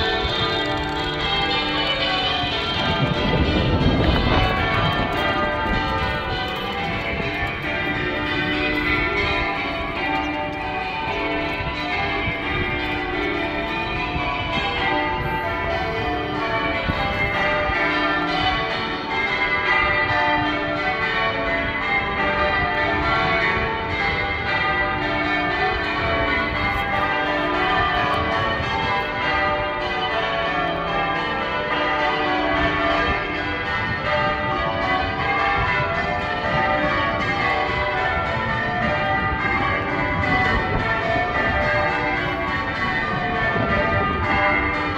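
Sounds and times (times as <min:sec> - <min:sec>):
church bells ringing: 0:00.0 - 0:44.9.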